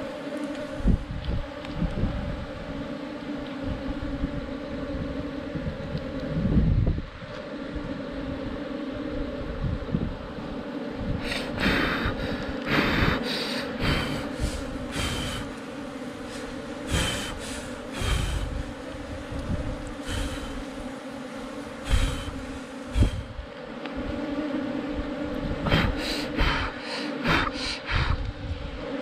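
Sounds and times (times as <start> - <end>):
bees buzzing: 0.0 - 29.0
rustling and scraping of honeycomb: 0.0 - 29.0.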